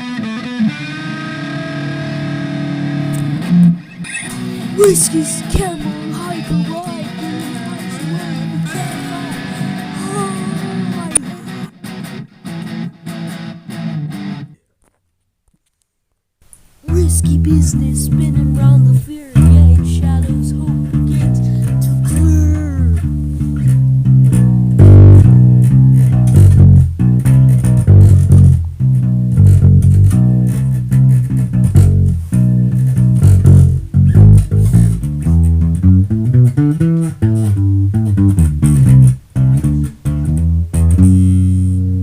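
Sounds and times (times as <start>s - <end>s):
plucked bass guitar: 0.0s - 11.8s, 16.9s - 42.0s
guitar: 0.0s - 15.0s, 16.5s - 42.0s.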